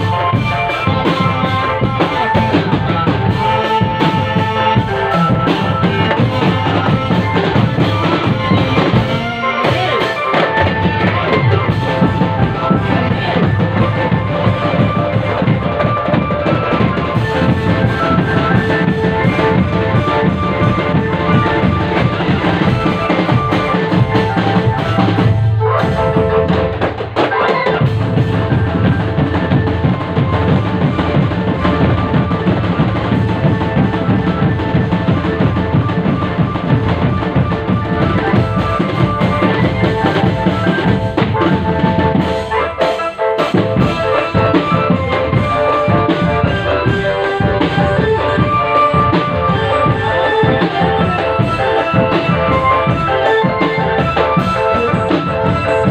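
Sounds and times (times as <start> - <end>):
drum band playing live: 0.0 - 55.9.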